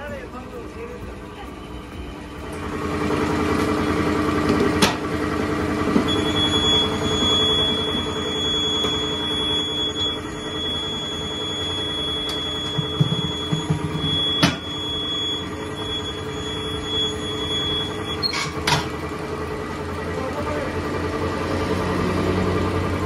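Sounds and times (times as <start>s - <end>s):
high mechanical whine: 0.0s - 23.0s
tyre-changer machine humming: 0.0s - 23.0s.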